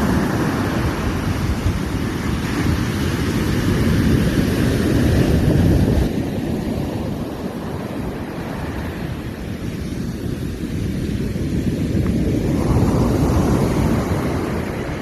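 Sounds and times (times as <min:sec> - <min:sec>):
sea surf washing in: 0:00.0 - 0:15.0
wind rumbling on microphone: 0:00.0 - 0:15.0.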